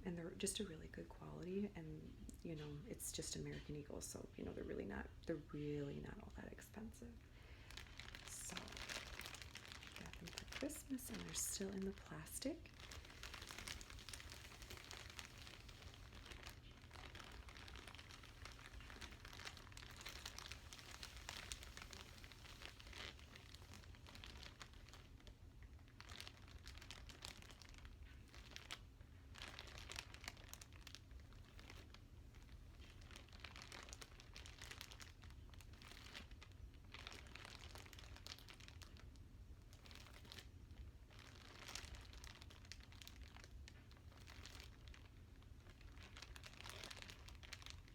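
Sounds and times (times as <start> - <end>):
plastic packaging crinkling: 2.2 - 47.9.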